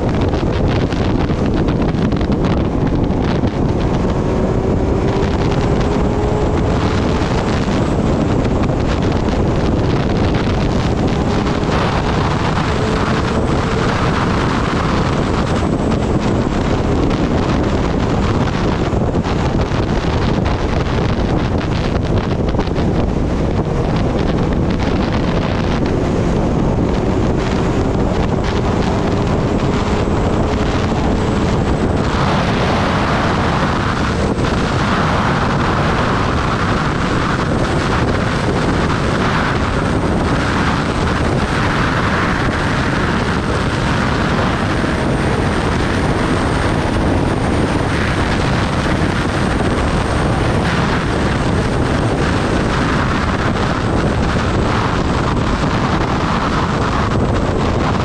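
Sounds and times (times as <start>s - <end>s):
motorcycle engine: 0.0s - 58.0s
wind rush on microphone: 0.0s - 58.0s.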